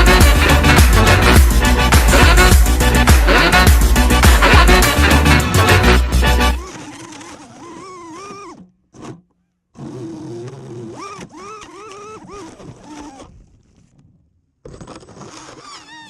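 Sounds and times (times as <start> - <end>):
quadcopter motors whining: 0.0 - 9.1, 10.0 - 13.3, 15.5 - 16.0.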